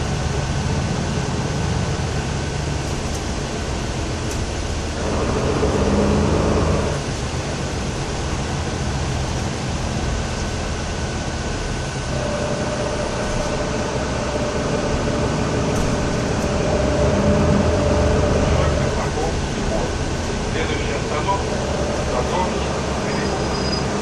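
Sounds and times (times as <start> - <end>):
bus engine and road noise: 0.0 - 24.0
steady whine: 0.0 - 24.0.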